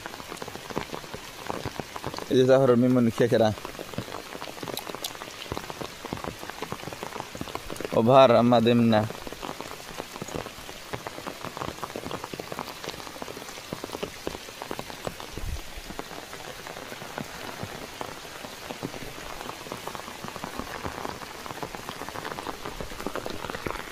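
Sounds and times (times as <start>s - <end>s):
steady rain patter: 0.0s - 23.9s.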